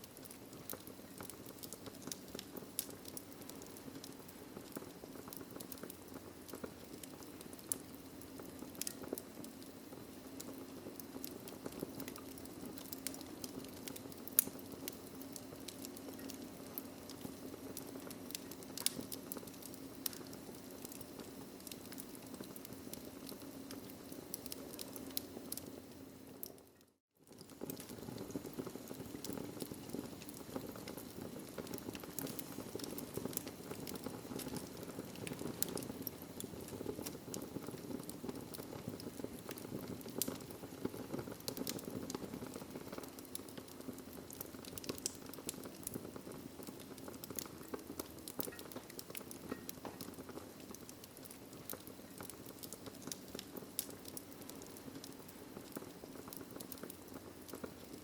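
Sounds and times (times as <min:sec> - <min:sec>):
burning logs popping: 0:00.0 - 0:58.0
wood fire crackling: 0:00.0 - 0:58.0.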